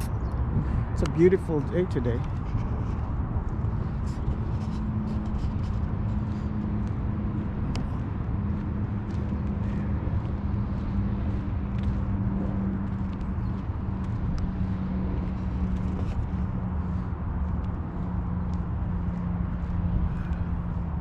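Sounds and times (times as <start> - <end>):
constant hum: 0.0 - 21.0
low outdoor rumble: 0.0 - 21.0.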